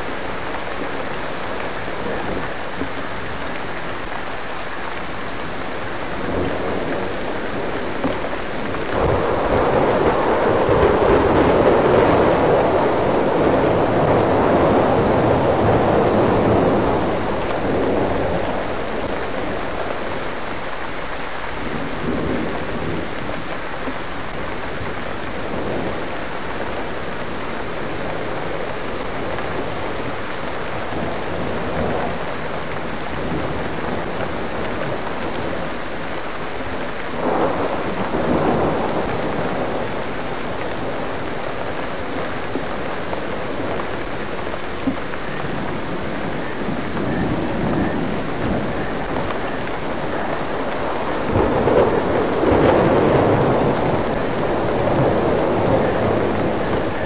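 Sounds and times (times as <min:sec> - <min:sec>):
steady rain falling: 0:00.0 - 0:57.0
thunder rumbling: 0:05.5 - 0:20.7, 0:21.6 - 0:57.0.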